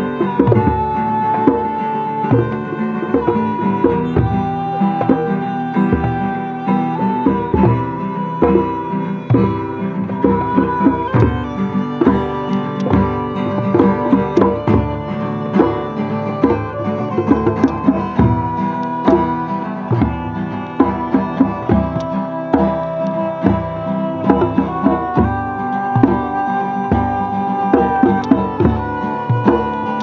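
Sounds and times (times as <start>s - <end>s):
acoustic guitar: 0.0s - 30.0s
hand drums beating: 0.0s - 30.0s
hurdy-gurdy melody with drone: 0.0s - 30.0s.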